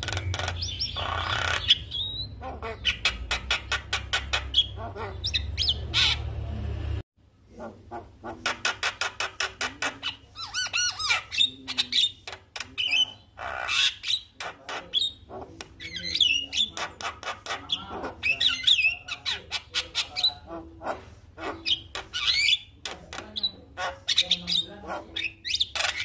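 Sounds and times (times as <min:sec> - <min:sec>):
bird chattering song: 0:00.0 - 0:06.4, 0:07.6 - 0:26.0.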